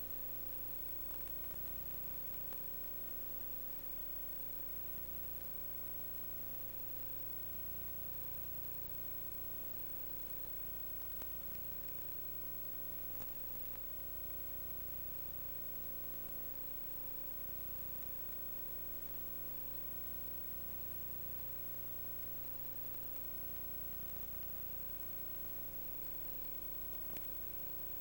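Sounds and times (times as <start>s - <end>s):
faint clicks: 0.0s - 7.8s, 8.7s - 28.0s
constant hiss: 0.0s - 28.0s
electrical hum: 0.0s - 28.0s.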